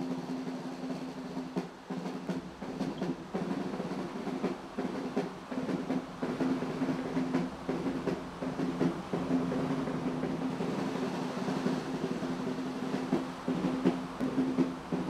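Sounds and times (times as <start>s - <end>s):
drum beats: 0.0s - 15.0s.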